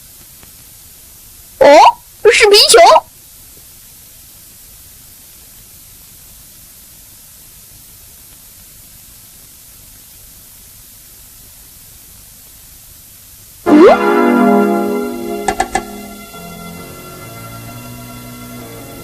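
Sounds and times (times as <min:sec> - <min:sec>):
film soundtrack hiss: 0:00.0 - 0:19.0.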